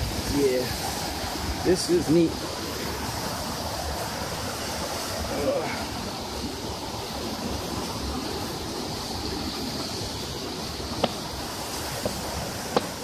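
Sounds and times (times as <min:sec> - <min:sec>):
stream rushing over rapids: 0:00.0 - 0:13.0.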